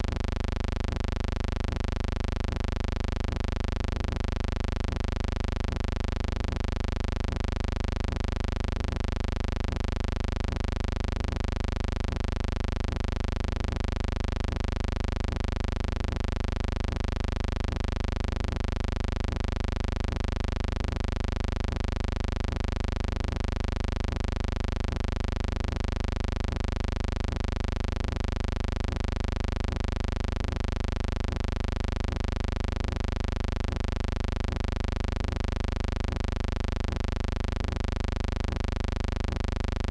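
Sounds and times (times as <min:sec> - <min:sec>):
faint regular ticks: 0:00.0 - 0:21.1, 0:21.7 - 0:39.9
buzzing hum: 0:00.0 - 0:39.9.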